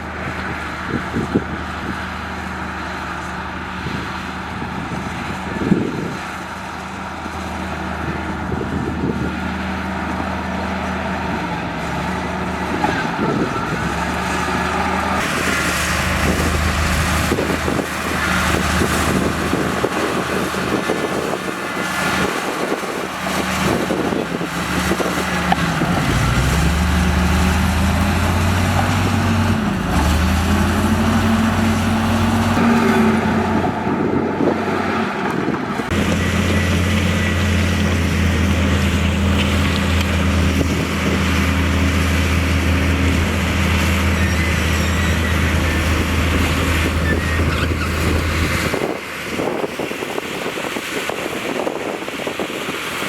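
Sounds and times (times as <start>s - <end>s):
heavy diesel engine working: 0.0s - 53.0s.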